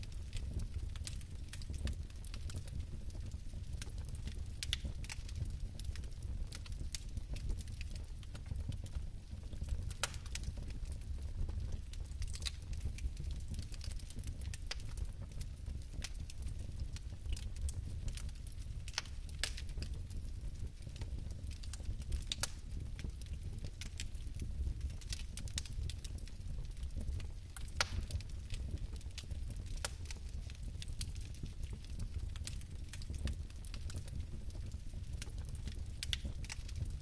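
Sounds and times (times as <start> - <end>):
fireplace fire crackling: 0.0 - 37.0.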